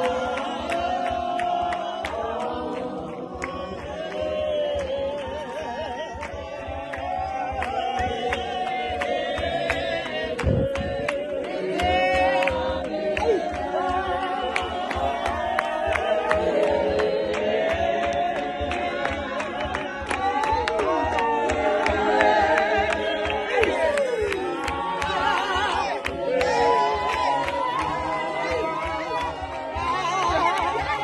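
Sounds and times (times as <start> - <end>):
group of voices singing: 0.0 - 31.0.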